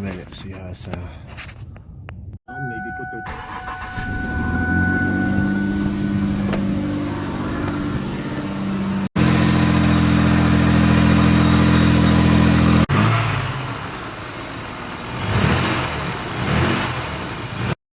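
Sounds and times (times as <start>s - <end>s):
car engine running: 3.3s - 17.8s.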